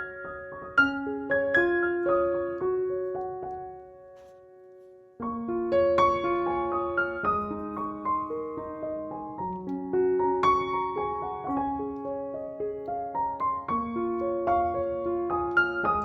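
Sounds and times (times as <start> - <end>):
soft solo piano music: 0.0 - 16.0.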